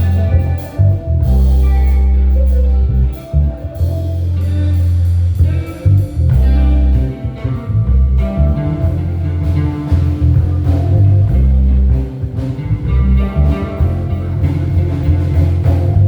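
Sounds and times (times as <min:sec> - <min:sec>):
bass guitar held notes: 0:00.0 - 0:16.0
drums: 0:00.0 - 0:16.0
electric guitar: 0:00.0 - 0:16.0.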